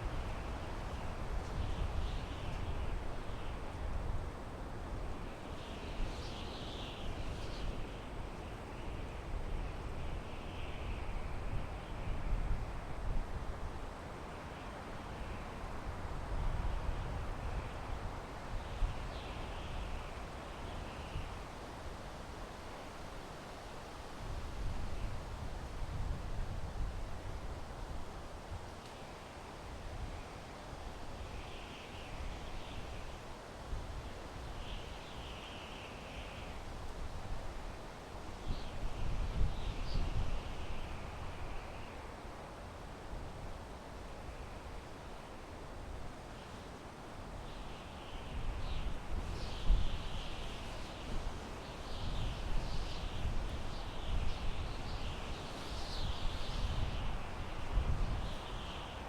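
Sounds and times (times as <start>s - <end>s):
wind through pine trees: 0.0s - 59.0s.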